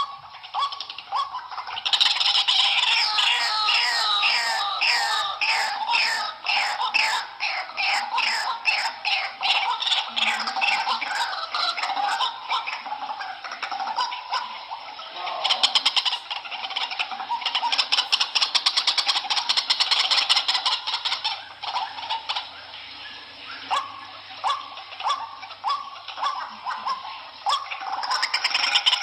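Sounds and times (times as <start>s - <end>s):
waterhen calling: 0.0s - 29.0s.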